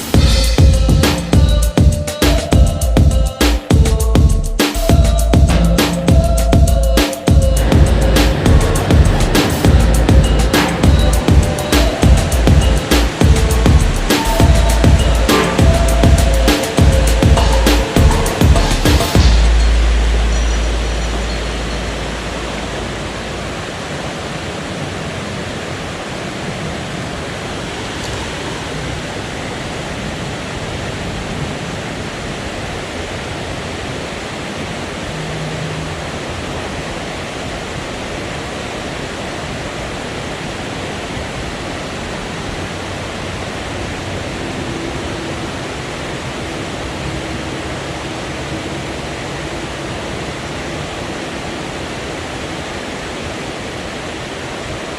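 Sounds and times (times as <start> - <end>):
river water rushing over rapids: 0.0 - 54.9.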